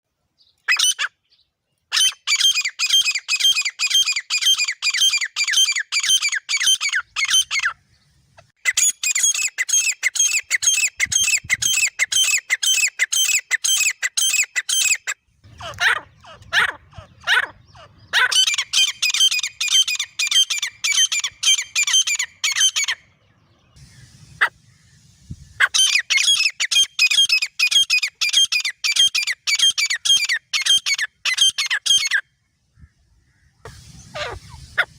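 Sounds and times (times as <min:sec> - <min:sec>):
lower bird calls: 0:00.4 - 0:34.9
francolin shrill calling: 0:01.9 - 0:07.8, 0:08.6 - 0:23.2, 0:23.8 - 0:32.3.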